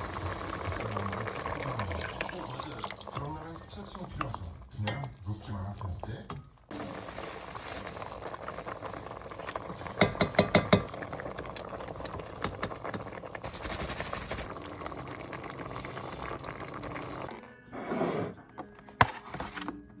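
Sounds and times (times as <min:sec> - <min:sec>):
pot boiling with hiss: 0:00.0 - 0:17.4.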